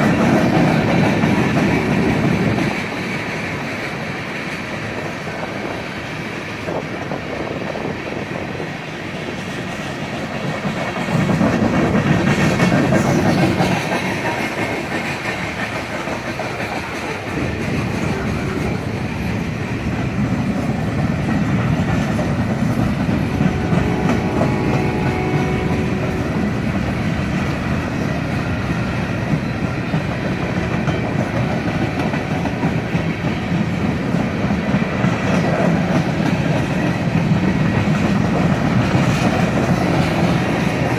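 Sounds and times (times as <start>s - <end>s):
train wheels clattering over rails: 0.0s - 40.9s.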